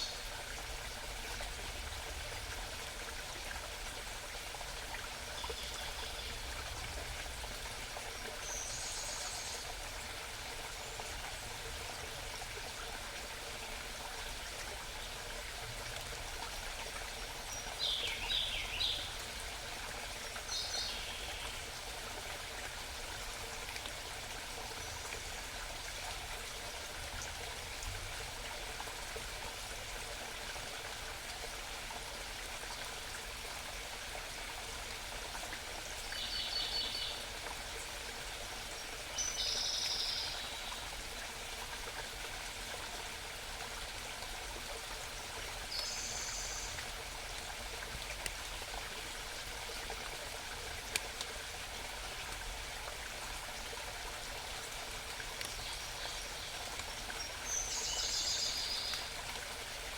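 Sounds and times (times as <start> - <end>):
mountain stream babbling: 0.0 - 59.9.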